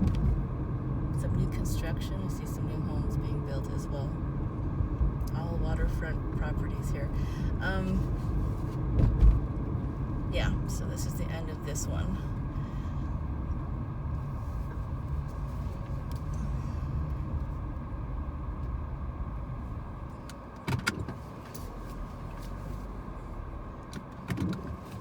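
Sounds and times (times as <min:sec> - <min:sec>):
engine and road noise rumble: 0:00.0 - 0:25.0.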